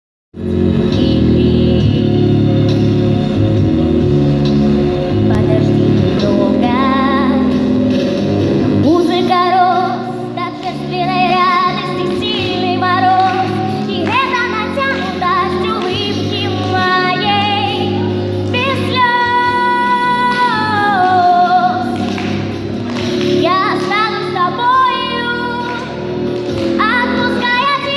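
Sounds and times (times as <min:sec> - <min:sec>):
instrumental accompaniment: 0:00.5 - 0:27.9
girl singing ballad: 0:00.8 - 0:02.6, 0:05.4 - 0:07.9, 0:08.8 - 0:27.9.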